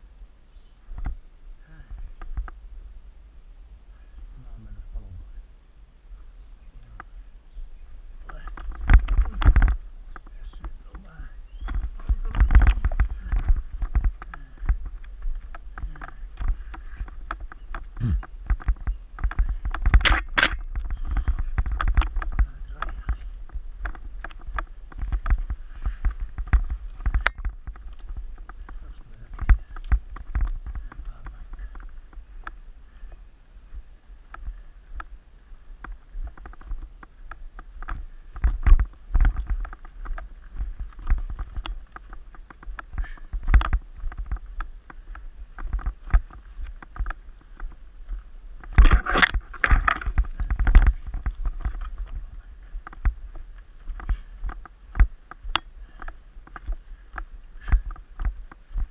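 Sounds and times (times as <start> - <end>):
low rumble of wind and tyres: 0.0 - 58.9
mountain bike rattling and knocking: 8.3 - 33.0, 35.8 - 58.9.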